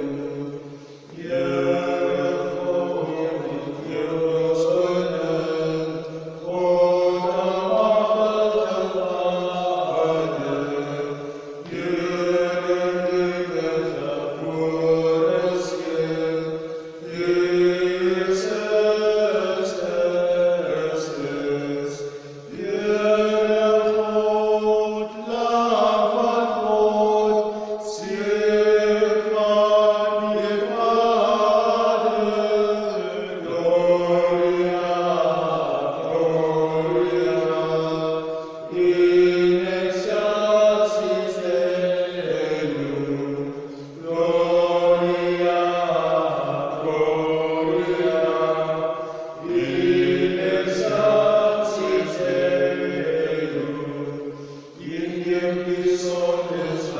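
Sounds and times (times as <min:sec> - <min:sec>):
men singing slow chant: 0:00.0 - 0:56.9.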